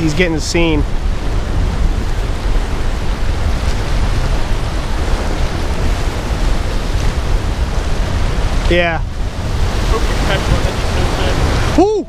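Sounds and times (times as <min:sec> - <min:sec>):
surf rushing: 0:00.0 - 0:12.0
wind buffeting microphone: 0:00.0 - 0:12.0.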